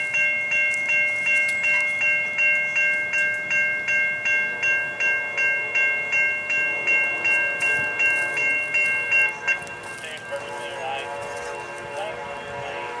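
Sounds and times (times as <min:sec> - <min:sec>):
crossing bell ringing rapidly: 0:00.0 - 0:13.0.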